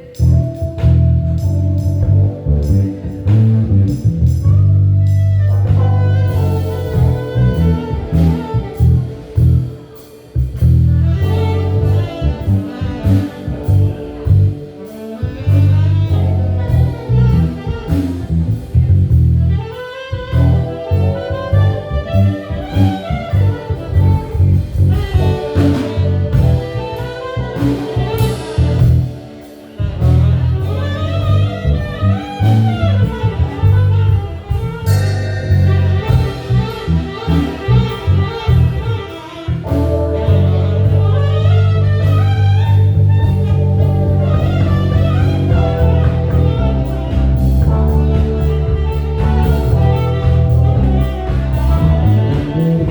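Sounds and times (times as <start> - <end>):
jazz blues band playing: 0.0 - 52.9
lead instrument soloing: 0.0 - 52.9.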